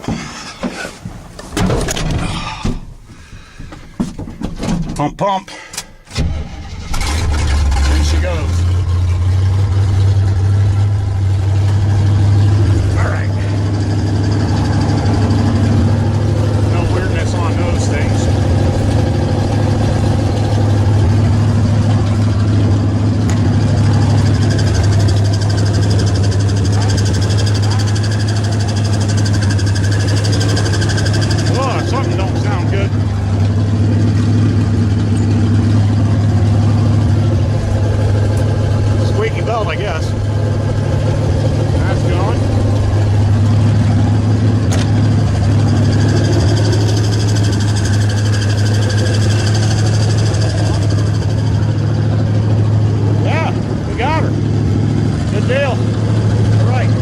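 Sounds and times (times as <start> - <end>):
pickup engine idling: 5.9 - 57.0.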